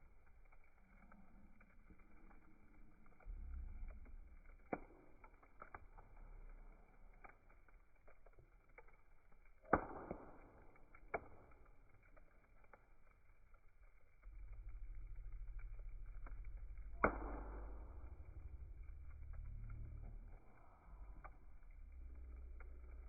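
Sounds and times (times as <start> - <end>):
faint low rumble: 0.0 - 9.7, 10.3 - 23.0
campfire crackling with pops: 0.0 - 23.0.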